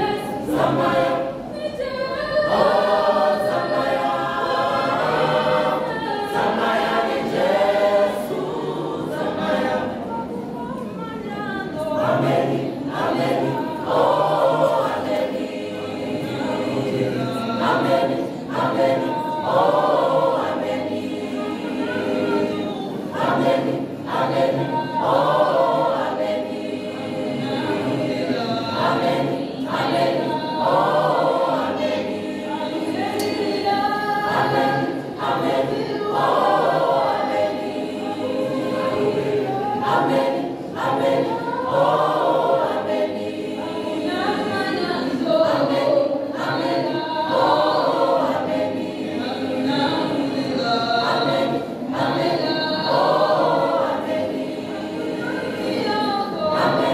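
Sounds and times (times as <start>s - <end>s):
choir singing a cappella: 0.0s - 56.9s.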